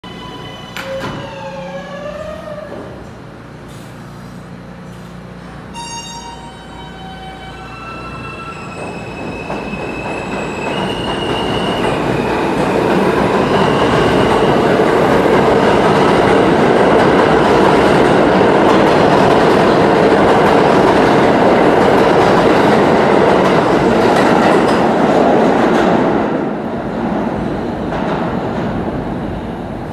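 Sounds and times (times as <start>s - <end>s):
subway train electric whine: 0.0s - 29.9s
steel wheels rumbling on rail: 4.5s - 29.9s.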